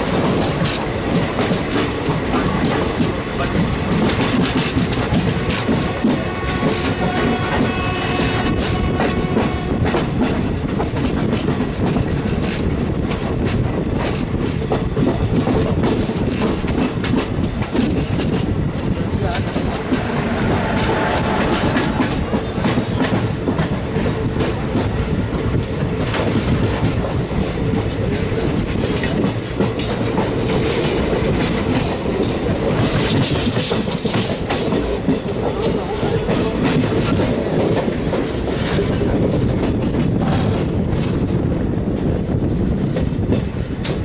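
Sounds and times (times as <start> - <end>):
train wheels clacking over rails: 0.0 - 44.0.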